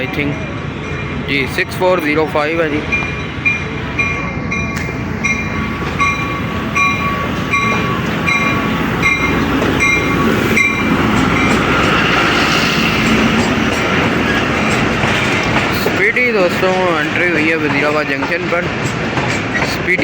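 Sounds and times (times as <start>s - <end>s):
train passing rumble: 0.0s - 20.0s.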